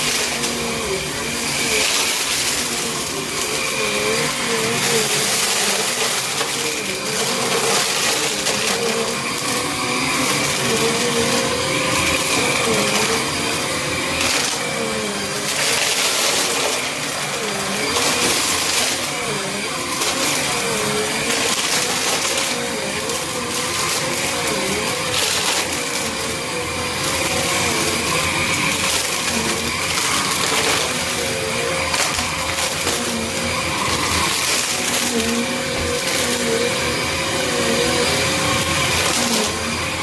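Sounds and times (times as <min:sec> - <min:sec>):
upright vacuum running: 0:00.0 - 0:40.0.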